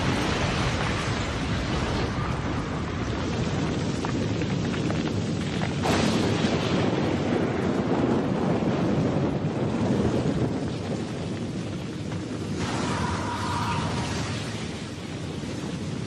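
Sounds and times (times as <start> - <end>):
rumbling rush of wind: 0.0 - 16.0.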